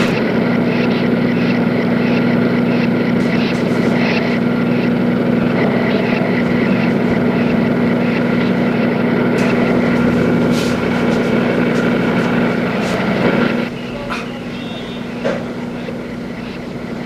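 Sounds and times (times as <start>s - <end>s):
petrol generator running: 0.0s - 17.0s.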